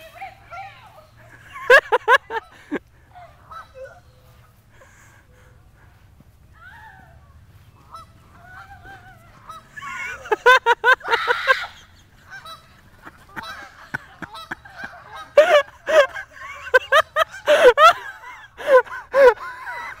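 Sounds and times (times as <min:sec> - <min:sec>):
geese honking: 0:00.0 - 0:06.0, 0:06.8 - 0:20.0.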